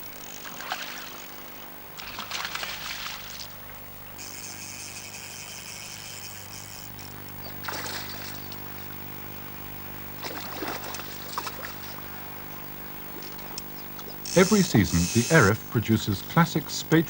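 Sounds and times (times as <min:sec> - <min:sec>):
river water splashing: 0:00.0 - 0:04.6, 0:05.2 - 0:14.3
low hum: 0:00.0 - 0:17.0.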